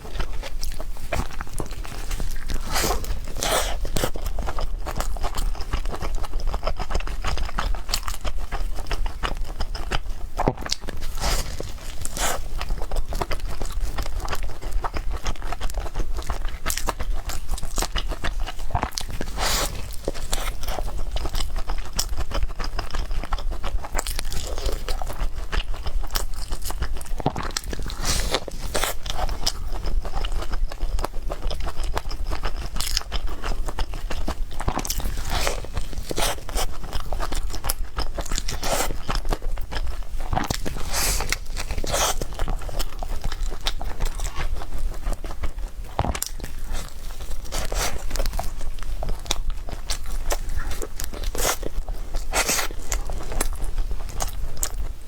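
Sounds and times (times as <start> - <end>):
person biting and chewing: 0.0 - 54.9
food crunching: 0.0 - 55.0.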